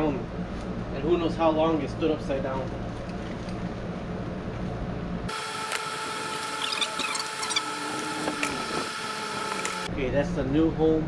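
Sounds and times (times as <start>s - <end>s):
steady high whine: 0.0s - 11.0s
steady low hum: 0.0s - 11.0s.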